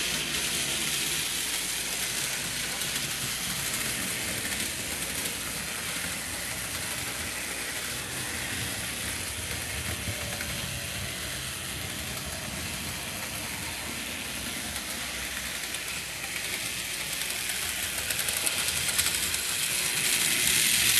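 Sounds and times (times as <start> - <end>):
model train motor whirring: 0.0 - 20.9
wheels on rails: 0.0 - 20.9.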